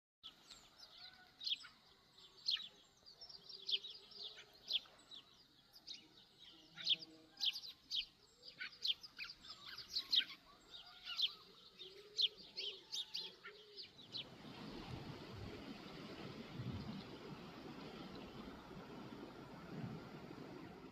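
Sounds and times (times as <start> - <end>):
songbirds chirping: 0.2 - 20.9.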